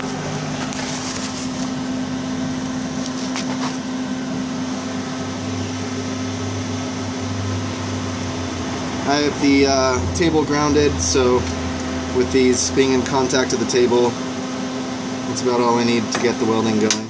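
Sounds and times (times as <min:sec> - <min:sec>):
lower hum: 0:00.0 - 0:15.8
machine hum: 0:00.0 - 0:17.0.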